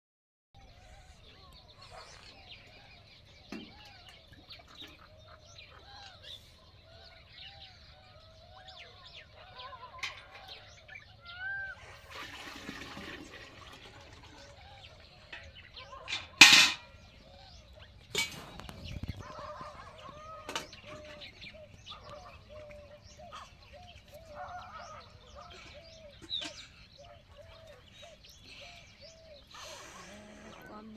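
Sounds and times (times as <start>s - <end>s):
birds calling: 0.6s - 30.9s.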